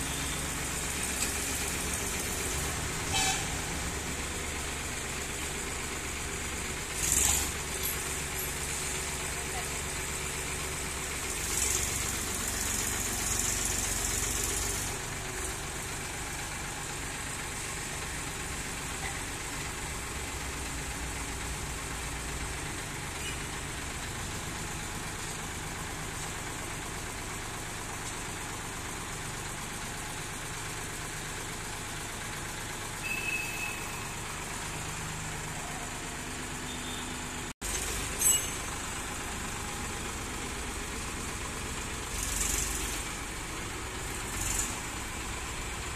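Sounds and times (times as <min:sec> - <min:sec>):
tractor diesel engines running: 0:00.0 - 0:45.9.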